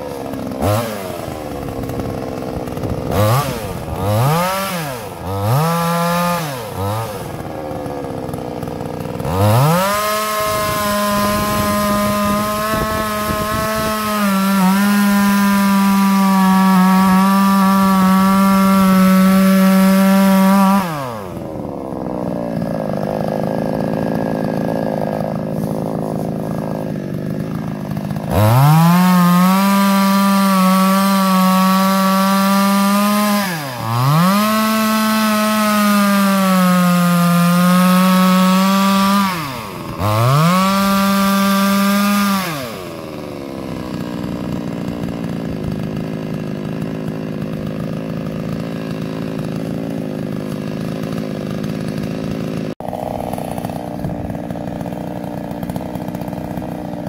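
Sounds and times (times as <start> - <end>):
chainsaw sawing into tree trunk: 0.0 - 57.0.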